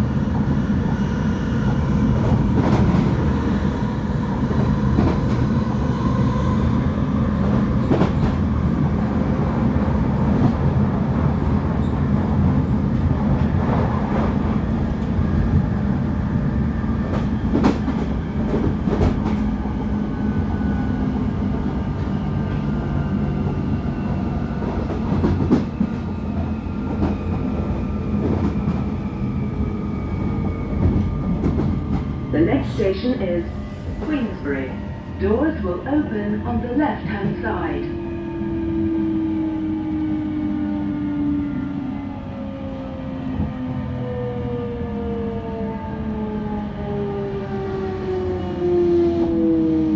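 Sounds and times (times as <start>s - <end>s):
train wheel and rail rumble: 0.0s - 49.9s.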